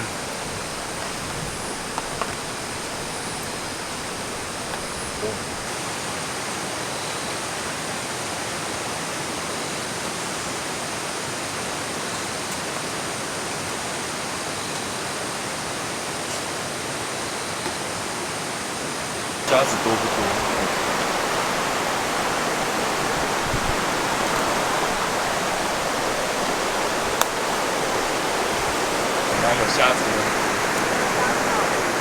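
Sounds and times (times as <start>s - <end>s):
mountain stream rushing: 0.0s - 32.0s.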